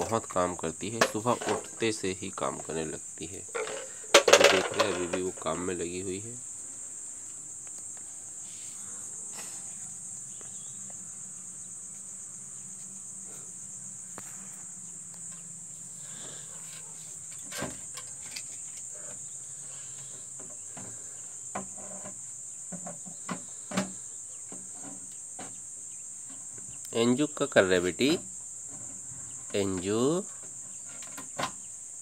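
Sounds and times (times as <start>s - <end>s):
high-pitched insect trill: 0.0s - 32.0s.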